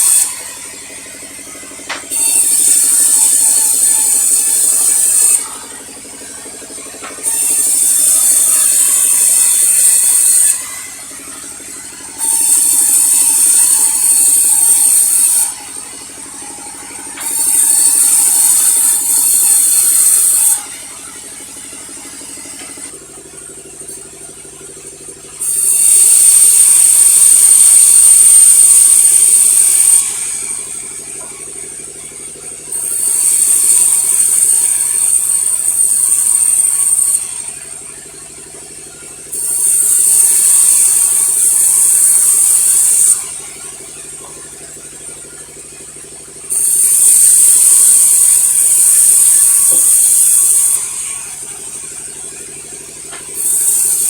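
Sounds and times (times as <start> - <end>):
machine running with low hum: 0.0 - 54.0
sawmill saw cutting logs: 0.0 - 54.0.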